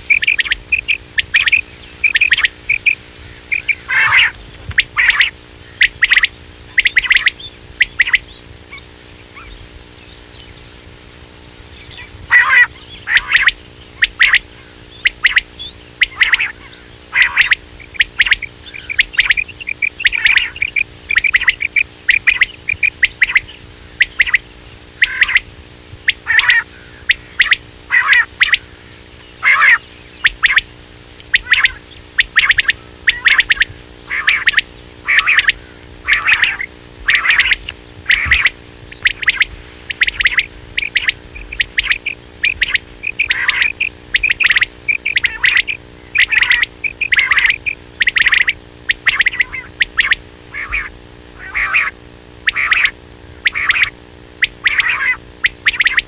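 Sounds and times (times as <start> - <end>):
faint steady hum: 0.0 - 56.0
quail calling: 0.0 - 56.0.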